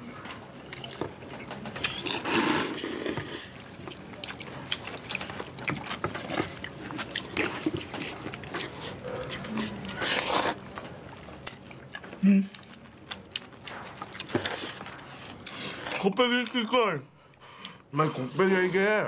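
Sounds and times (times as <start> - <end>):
men slurping and chewing noodles: 0.0 - 19.0.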